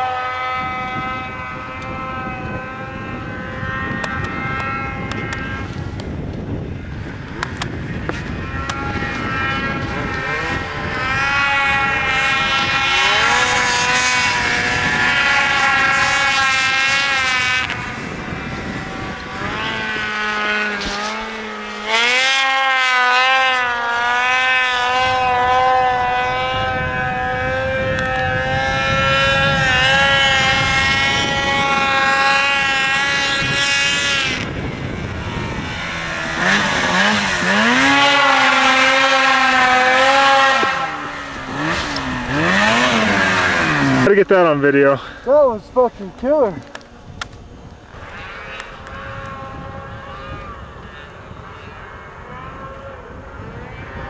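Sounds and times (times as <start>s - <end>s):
nearby snowmobile revving hard: 0.0s - 54.0s
snowmobile engines revving: 0.0s - 54.0s.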